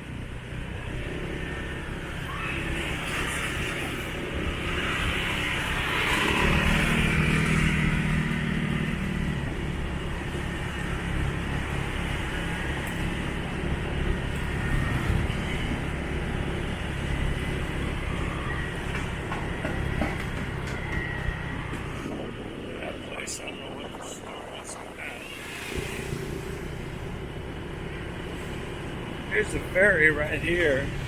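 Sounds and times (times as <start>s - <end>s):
road noise: 0.0s - 31.0s
motorbike engine rumbling: 3.8s - 31.0s.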